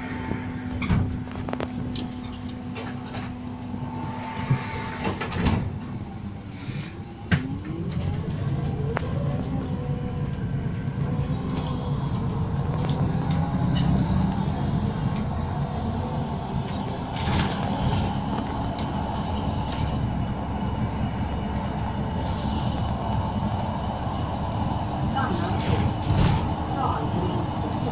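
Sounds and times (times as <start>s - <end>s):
bus engine and road drone: 0.0s - 27.9s
drivetrain whine: 0.0s - 27.9s.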